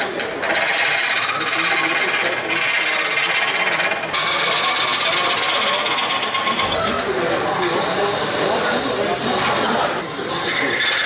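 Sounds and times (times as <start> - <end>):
lathe tool shaving wood: 0.0 - 11.0.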